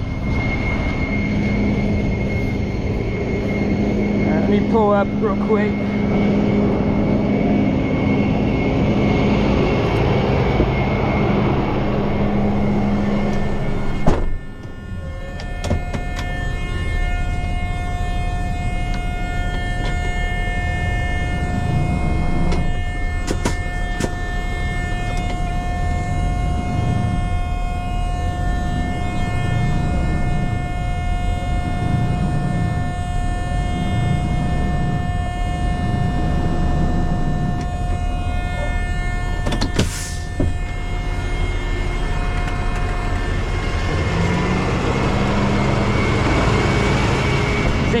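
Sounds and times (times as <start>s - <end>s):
high whine: 0.0s - 48.0s
tow truck engine running: 0.0s - 48.0s.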